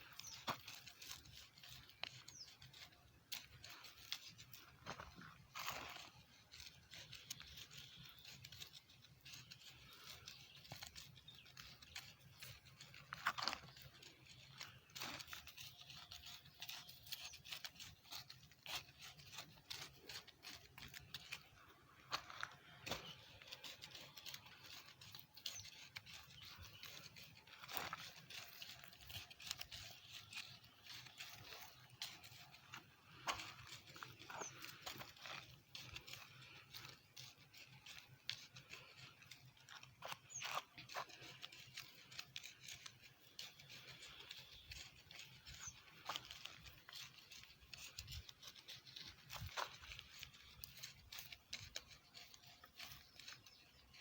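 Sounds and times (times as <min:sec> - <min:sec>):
scraping and crunching of soil: 0:00.0 - 0:54.0.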